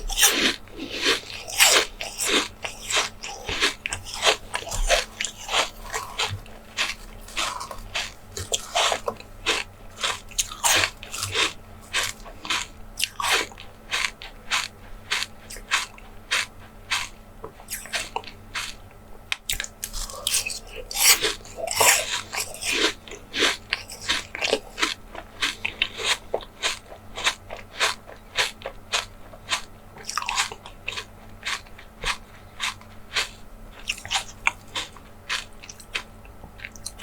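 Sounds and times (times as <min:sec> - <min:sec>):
crunchy bites and chewing: 0:00.0 - 0:37.0.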